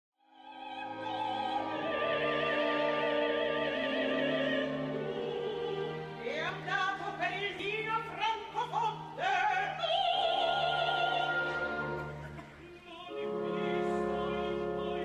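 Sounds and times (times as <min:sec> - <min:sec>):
woman singing opera: 0:00.3 - 0:15.0
orchestral chords: 0:00.6 - 0:15.0.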